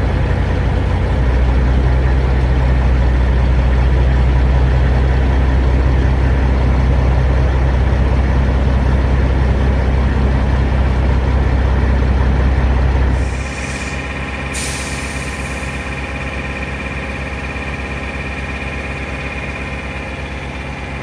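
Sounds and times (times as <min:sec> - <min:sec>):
diesel engine idling low: 0:00.0 - 0:21.0.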